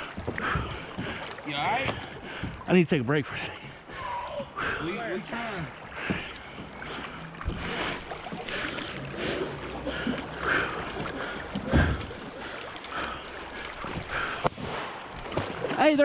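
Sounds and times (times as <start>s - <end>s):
kayak hull knocking: 0.0s - 2.7s, 4.9s - 9.1s, 9.7s - 15.9s
river water splashing around kayak: 0.0s - 16.0s.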